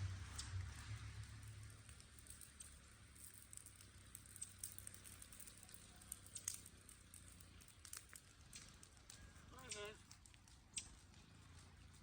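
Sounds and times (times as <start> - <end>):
fire crackling and snapping: 0.2 - 12.0.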